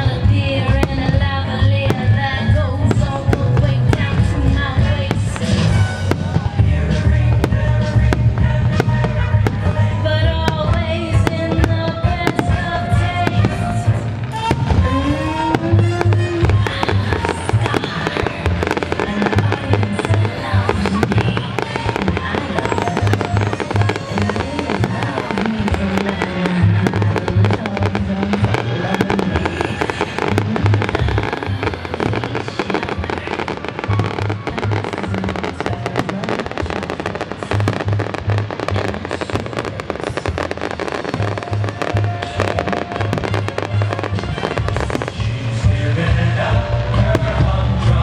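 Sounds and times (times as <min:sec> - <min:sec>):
fireworks bangs and crackles: 0:00.0 - 0:48.0
music playing: 0:00.0 - 0:48.0.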